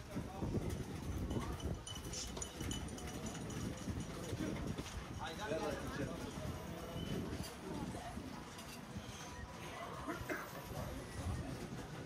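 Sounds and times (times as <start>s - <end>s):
faint voices: 0.0s - 12.0s
murmur of passers-by: 0.0s - 12.0s.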